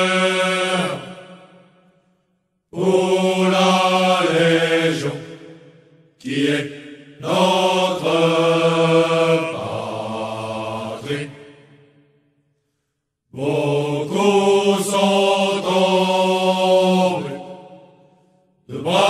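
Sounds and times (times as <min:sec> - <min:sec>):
male chorus singing: 0:00.0 - 0:01.7, 0:02.7 - 0:12.0, 0:13.3 - 0:18.0, 0:18.7 - 0:19.0.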